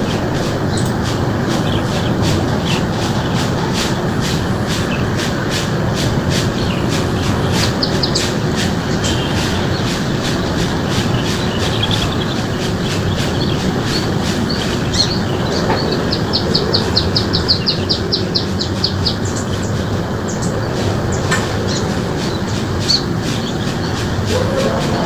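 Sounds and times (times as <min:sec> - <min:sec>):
rapid high bird notes: 0:00.0 - 0:25.0
small birds chirping: 0:00.0 - 0:25.0
steady wind or traffic noise: 0:00.0 - 0:25.0.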